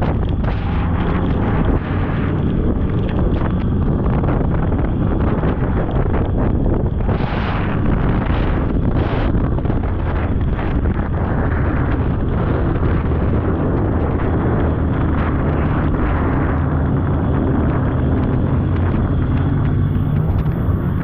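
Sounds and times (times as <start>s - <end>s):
snowmobile engine droning: 0.0s - 21.0s.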